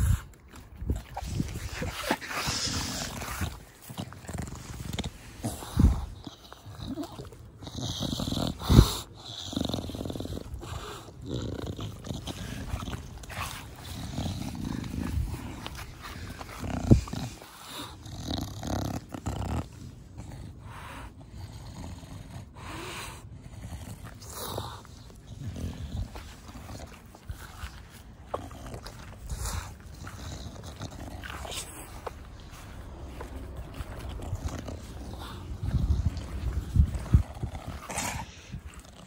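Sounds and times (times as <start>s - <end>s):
dog snorting and snuffling: 0.0s - 39.0s.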